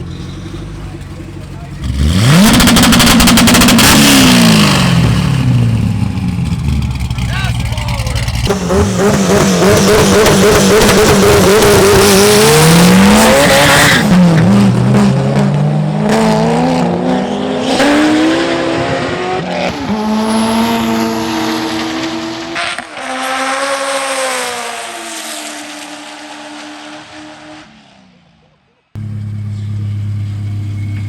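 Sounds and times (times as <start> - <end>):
race cars accelerating: 0.0 - 31.0.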